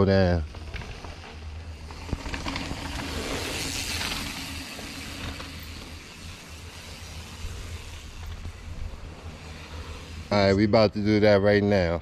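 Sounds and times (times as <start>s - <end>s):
bike tyres hissing on dirt: 0.3s - 12.0s.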